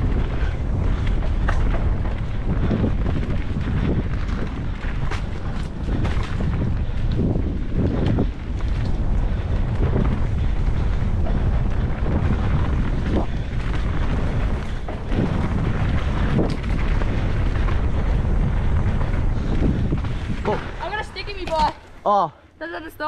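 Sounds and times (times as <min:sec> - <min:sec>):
bike knocking over bumps: 0:00.0 - 0:21.8
wind rushing over microphone: 0:00.0 - 0:21.8
bike rolling low rumble: 0:00.0 - 0:22.0.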